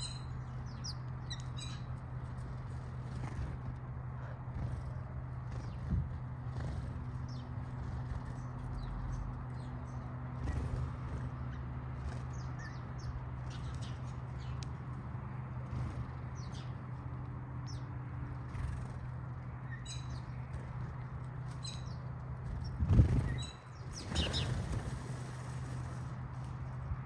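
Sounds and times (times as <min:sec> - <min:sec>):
sparrows chirping: 0:00.0 - 0:27.0
flurry of bird wingbeats: 0:02.2 - 0:17.2, 0:18.0 - 0:19.3, 0:20.2 - 0:27.0.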